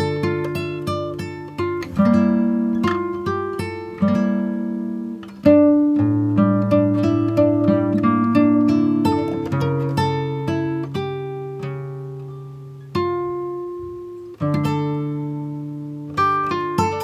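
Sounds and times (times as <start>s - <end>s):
slow acoustic guitar music: 0.0s - 17.0s.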